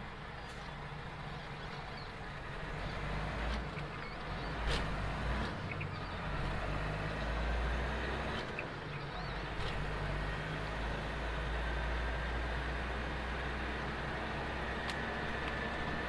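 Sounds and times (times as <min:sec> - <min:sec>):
diesel truck engine running: 0:00.0 - 0:16.0
road and cab noise: 0:00.0 - 0:16.0.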